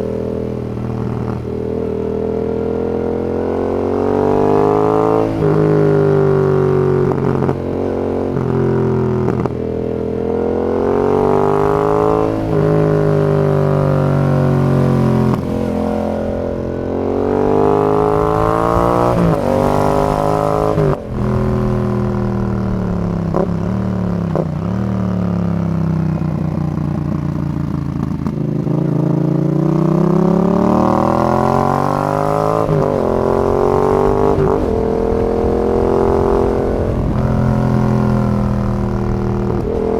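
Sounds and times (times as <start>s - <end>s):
exhaust crackling: 0.0s - 39.9s
motorcycle engine accelerating: 0.0s - 39.9s.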